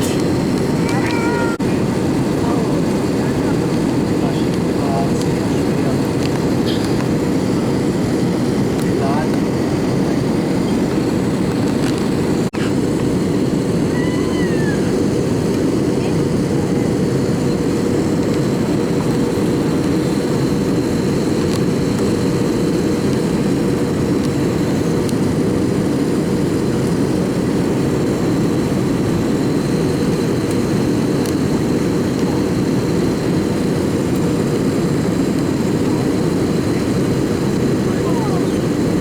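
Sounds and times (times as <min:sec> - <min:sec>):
airplane cabin engine rush: 0:00.0 - 0:39.0
constant hum: 0:00.0 - 0:39.0.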